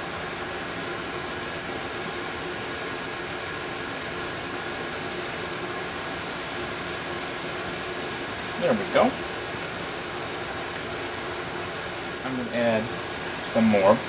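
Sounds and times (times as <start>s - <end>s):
batter sizzling on a griddle: 1.1s - 14.0s.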